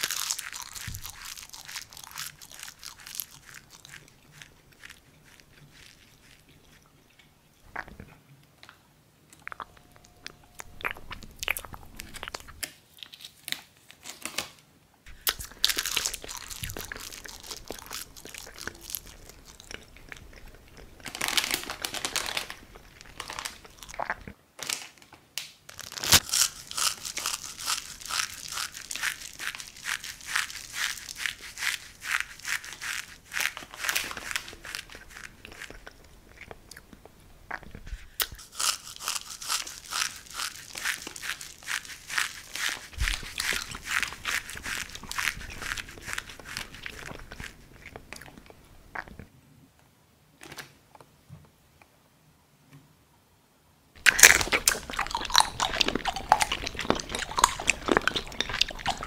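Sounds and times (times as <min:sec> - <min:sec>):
plastic wrapper crinkling and tearing: 0:00.0 - 0:06.4, 0:09.6 - 0:36.1, 0:37.8 - 0:48.0, 0:54.0 - 0:59.0
dry noodles crunching: 0:00.0 - 0:08.1, 0:09.4 - 0:13.3, 0:15.1 - 0:24.8, 0:25.7 - 0:49.2, 0:54.0 - 0:59.0.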